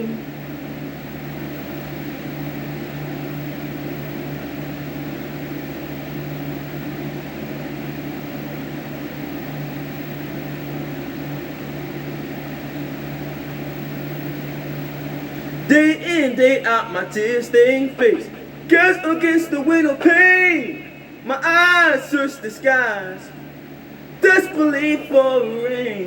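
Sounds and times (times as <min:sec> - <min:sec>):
steady mechanical hum with hiss: 0:00.0 - 0:26.0.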